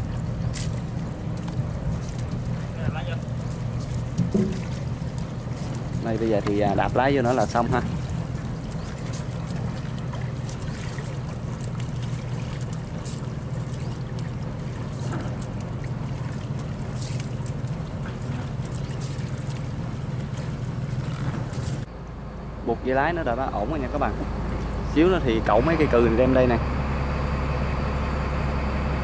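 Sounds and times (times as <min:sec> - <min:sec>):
large engine humming: 0:00.0 - 0:29.0.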